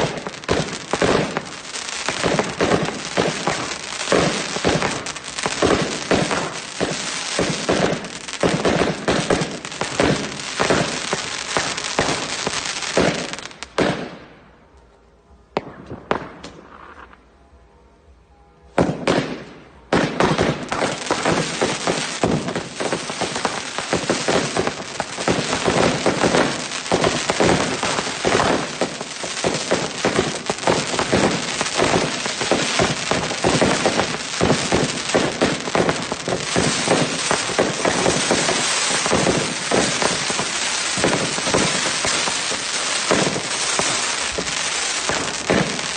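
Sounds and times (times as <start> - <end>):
fireworks banging and crackling: 0.0 - 14.5, 15.5 - 17.3, 18.8 - 45.9.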